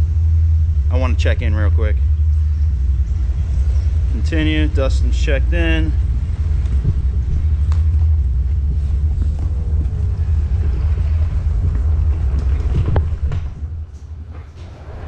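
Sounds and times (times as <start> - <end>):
low rumble of moving wheelchair: 0.0 - 15.0.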